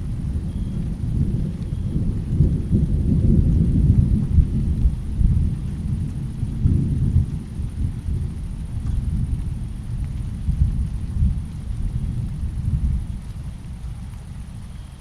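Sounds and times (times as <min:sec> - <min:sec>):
rolling thunder: 0:00.0 - 0:14.6
faint rain: 0:00.0 - 0:15.0.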